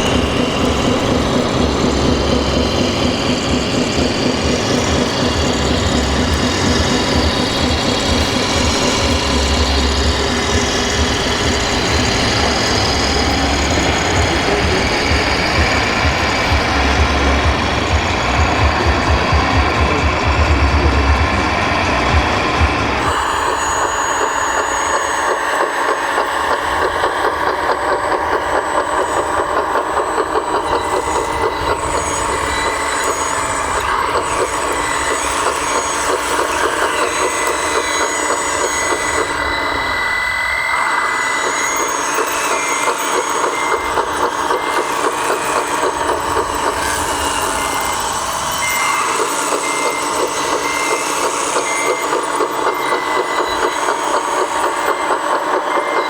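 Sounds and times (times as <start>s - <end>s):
simulated diesel engine throb: 0.0s - 54.6s
reversing beeper: 0.0s - 56.0s.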